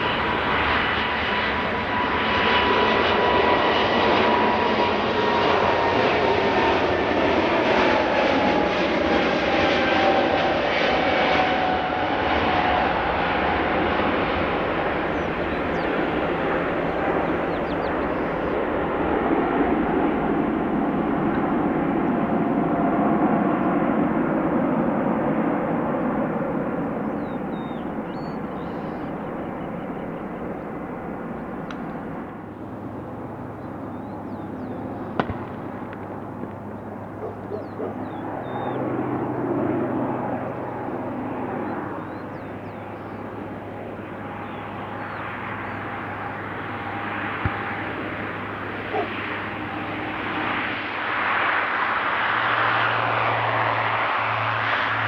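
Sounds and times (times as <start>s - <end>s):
aircraft engine noise: 0.0s - 55.0s.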